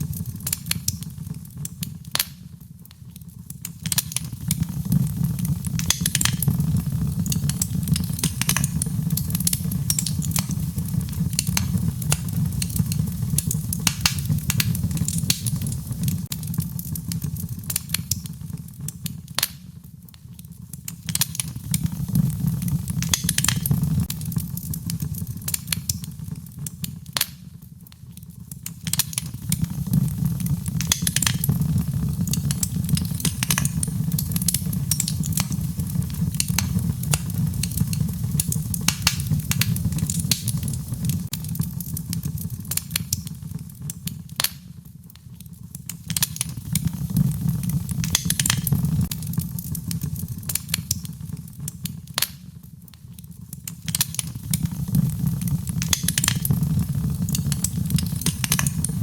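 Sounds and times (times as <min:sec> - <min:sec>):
sharp pops and snaps: 0:00.0 - 0:59.0
wood fire crackling: 0:00.0 - 0:59.0.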